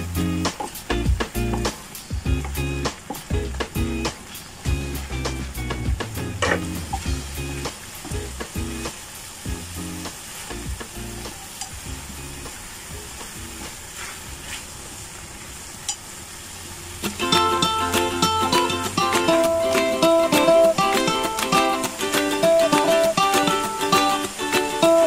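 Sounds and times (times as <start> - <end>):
background music: 0.0 - 13.7, 17.0 - 25.0
vegetables sizzling in a frying pan: 0.0 - 25.0.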